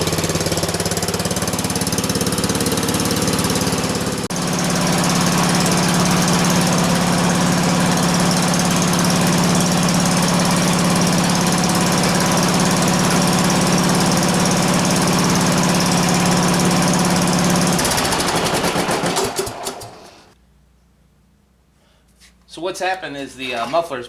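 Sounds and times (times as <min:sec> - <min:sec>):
lawn tractor engine with loud exhaust: 0:00.0 - 0:20.4.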